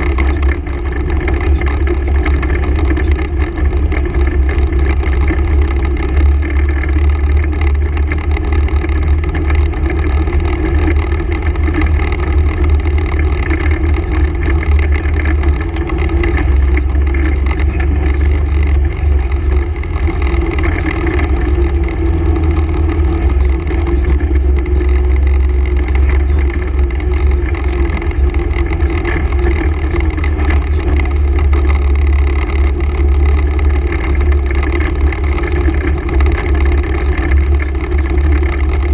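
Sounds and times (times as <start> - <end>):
atv engine rumbling: 0.0 - 38.9.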